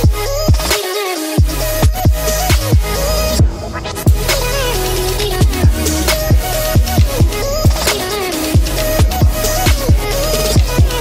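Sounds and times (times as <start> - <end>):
electronic beat with kick drums: 0.0 - 11.0
synth melody: 1.6 - 11.0.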